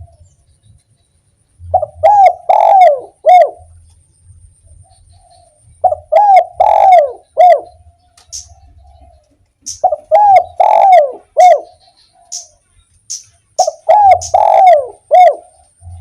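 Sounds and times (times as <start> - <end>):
dove cooing song: 0.0 - 0.6, 1.6 - 3.8, 4.6 - 16.0
faint high bird chirps: 0.0 - 16.0.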